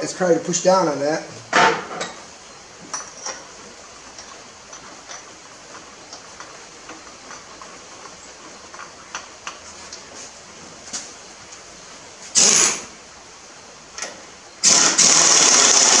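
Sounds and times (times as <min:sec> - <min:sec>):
low hiss: 0:00.0 - 0:16.0.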